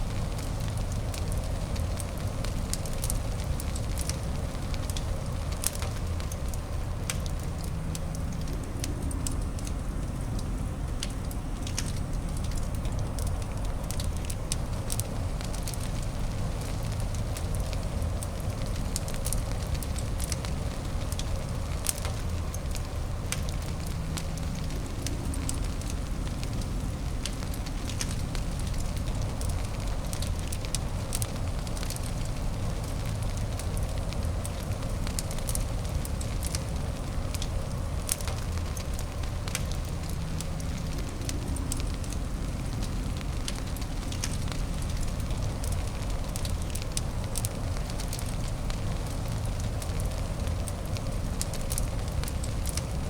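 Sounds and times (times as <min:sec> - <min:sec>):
low rumble and hiss of burning: 0:00.0 - 0:53.0
wood fire crackling: 0:00.0 - 0:53.0.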